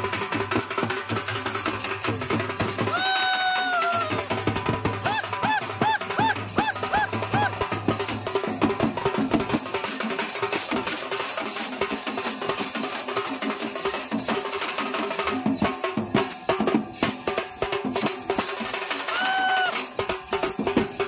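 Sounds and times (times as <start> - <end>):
hand drums pounding: 0.0 - 21.0.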